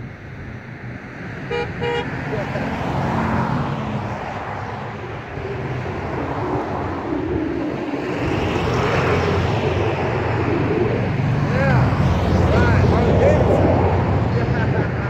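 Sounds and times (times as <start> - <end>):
vehicles passing by: 0.0 - 15.0.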